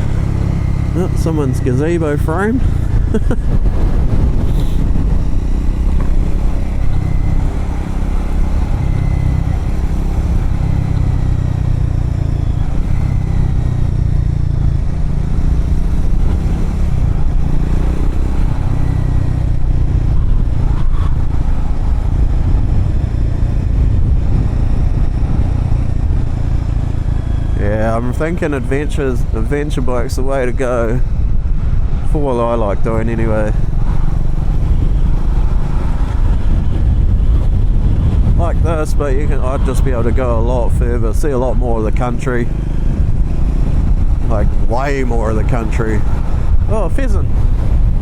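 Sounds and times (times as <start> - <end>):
motorcycle engine rumbling: 0.0 - 48.0
wind noise: 0.0 - 48.0.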